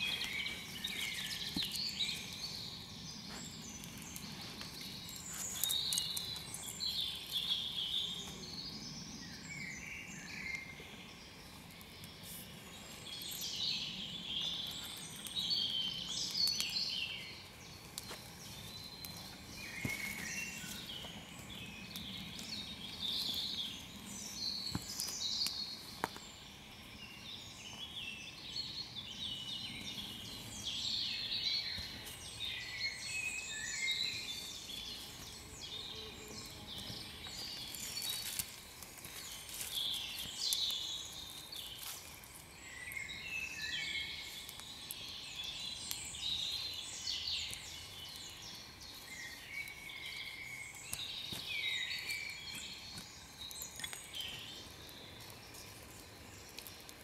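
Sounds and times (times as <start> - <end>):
campfire crackles: 0.0 - 57.0
songbirds singing: 0.0 - 57.0.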